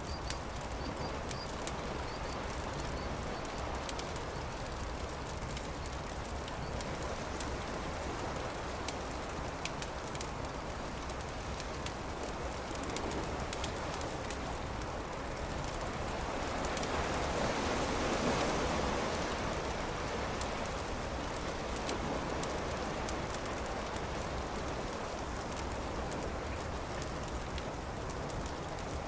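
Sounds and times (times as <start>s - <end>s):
campfire crackling and popping: 0.0s - 29.0s
surf wave: 0.0s - 29.0s.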